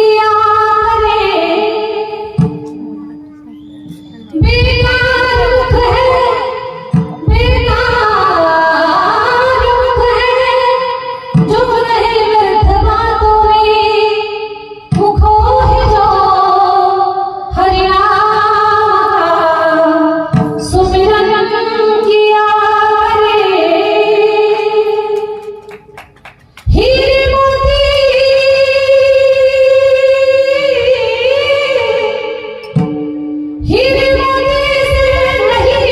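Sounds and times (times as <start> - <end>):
woman singing: 0.0 - 3.5, 4.3 - 25.6, 26.7 - 32.9, 33.6 - 35.9.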